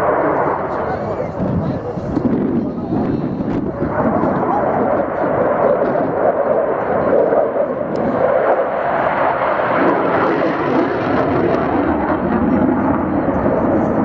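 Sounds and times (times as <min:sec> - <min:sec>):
jet engine roaring: 0:00.0 - 0:14.0.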